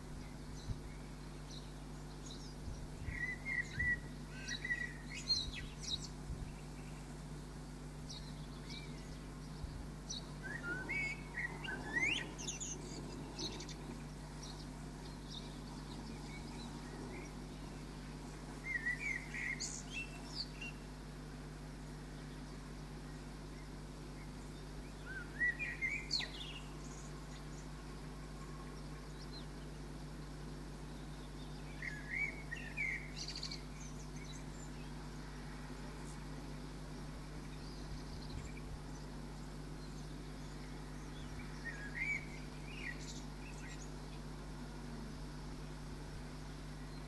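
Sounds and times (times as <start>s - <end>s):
low hum: 0.0s - 47.0s
small birds chirping: 0.0s - 47.0s.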